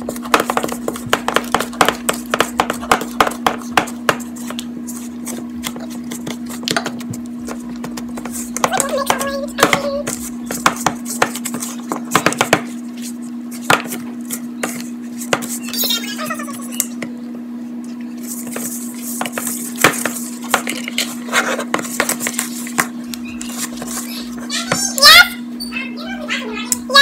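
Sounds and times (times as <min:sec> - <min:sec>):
wooden spoon stirring dough: 0:00.0 - 0:15.7, 0:18.1 - 0:24.9
steady low hum: 0:00.0 - 0:27.0.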